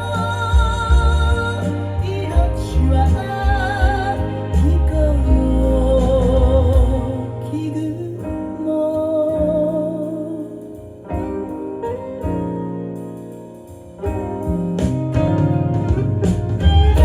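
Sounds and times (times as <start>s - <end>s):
pop ballad over loudspeakers: 0.0s - 17.0s.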